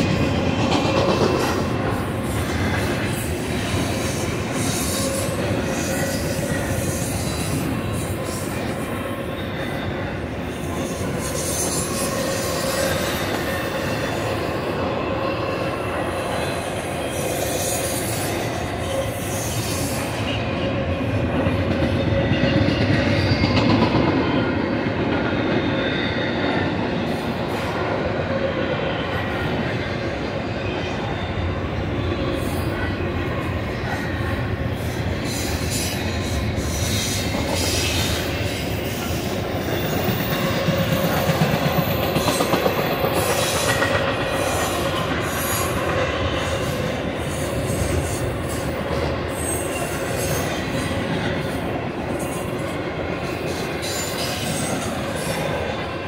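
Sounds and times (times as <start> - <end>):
clicks and clanks from train cars: 0.0 - 56.0
train wheels rumbling on rail: 0.0 - 56.0.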